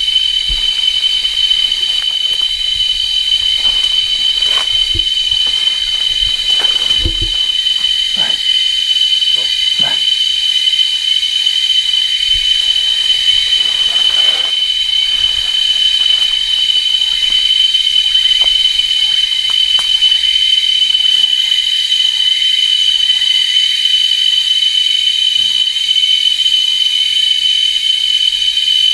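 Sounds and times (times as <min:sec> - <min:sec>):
insect chorus drone: 0:00.0 - 0:28.9.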